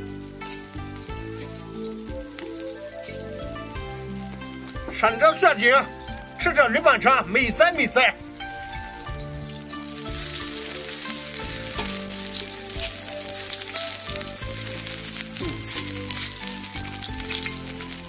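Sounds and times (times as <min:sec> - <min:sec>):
meat sizzling in oil: 0:00.0 - 0:18.0
soft background music: 0:00.0 - 0:18.0.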